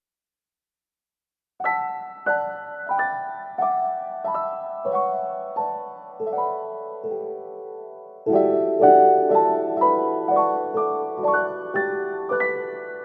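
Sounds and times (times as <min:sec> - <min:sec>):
gentle piano melody: 0:01.6 - 0:13.0.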